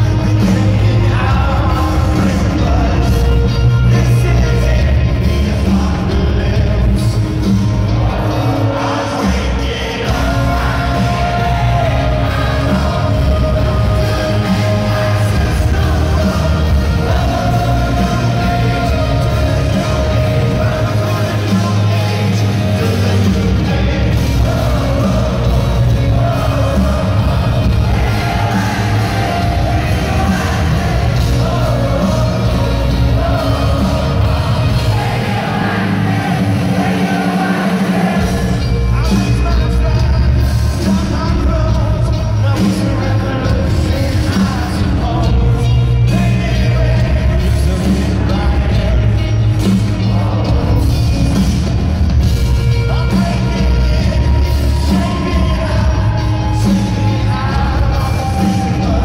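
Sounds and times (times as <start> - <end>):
lead singer singing: 0.0 - 59.0
live rock band: 0.0 - 59.0.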